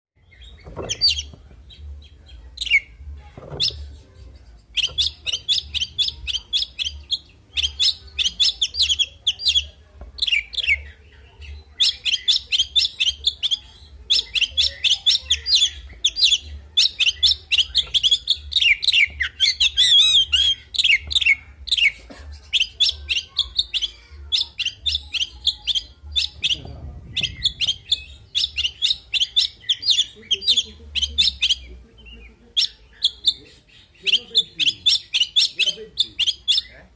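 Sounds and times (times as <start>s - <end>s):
songbird chirps trills and whistles: 0.2s - 36.9s.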